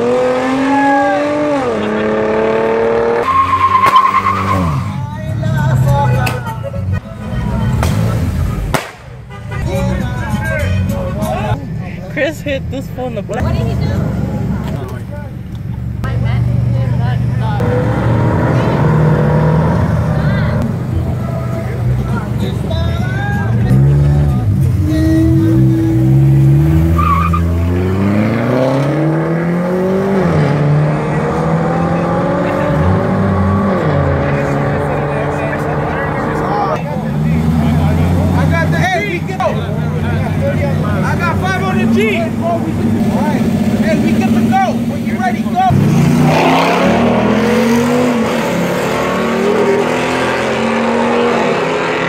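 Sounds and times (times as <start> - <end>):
car engines revving and accelerating: 0.0 - 52.0.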